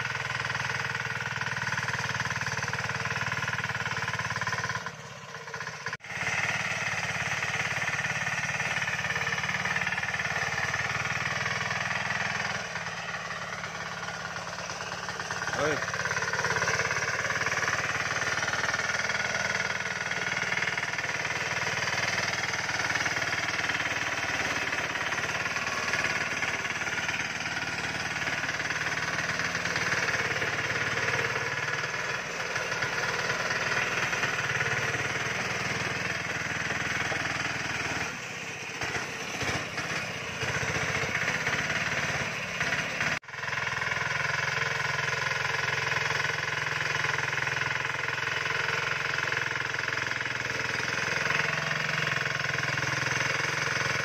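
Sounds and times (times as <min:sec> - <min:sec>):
small vehicle engine running: 0:00.0 - 0:54.0.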